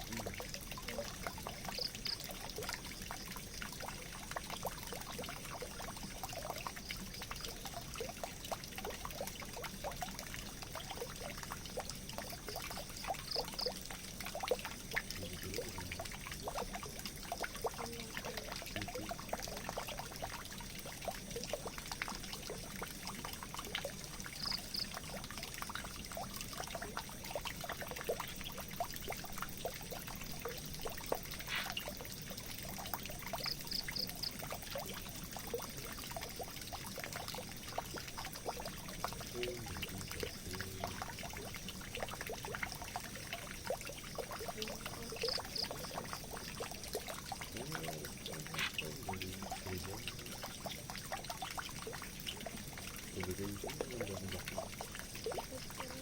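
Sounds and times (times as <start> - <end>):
water running into a drain: 0.0 - 56.0.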